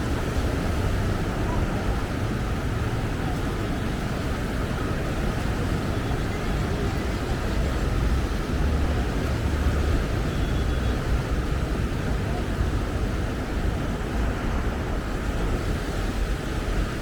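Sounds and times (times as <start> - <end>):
surf rumble: 0.0 - 17.0
wind: 0.0 - 17.0.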